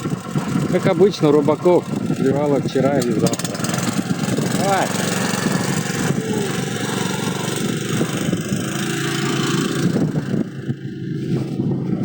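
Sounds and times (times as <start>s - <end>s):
small vehicle engine running: 0.0s - 12.0s.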